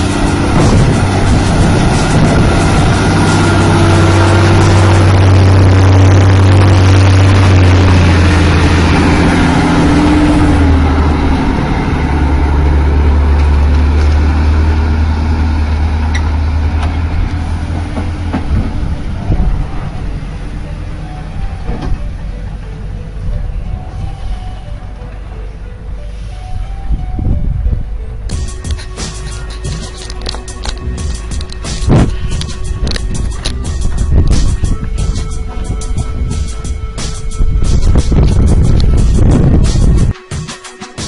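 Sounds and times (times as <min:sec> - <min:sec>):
heavy vehicle engine drone: 0:00.0 - 0:41.0.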